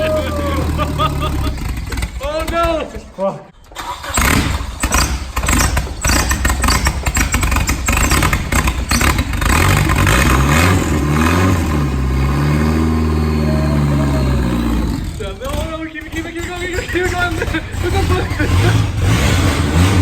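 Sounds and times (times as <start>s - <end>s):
turbocharged engine sputtering and running: 0.0s - 3.0s, 3.8s - 20.0s.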